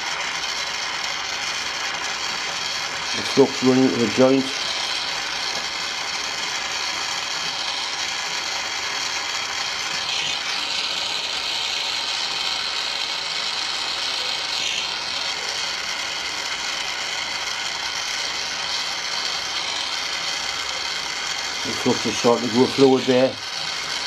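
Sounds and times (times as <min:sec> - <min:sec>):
gas torch hissing: 0:00.0 - 0:24.0.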